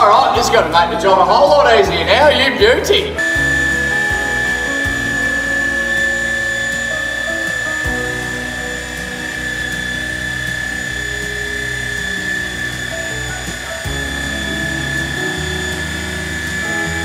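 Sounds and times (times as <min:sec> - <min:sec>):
background music: 0:00.0 - 0:17.0
power polisher motor whine: 0:03.2 - 0:17.0.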